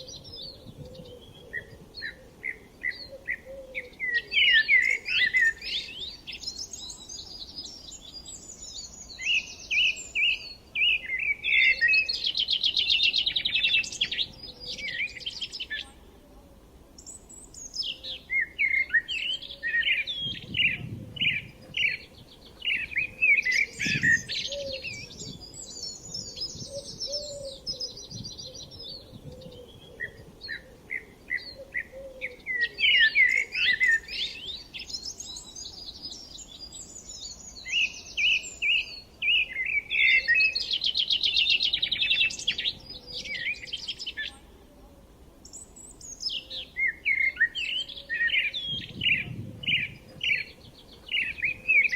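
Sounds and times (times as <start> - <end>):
songbirds singing and trilling: 0.0 - 51.9.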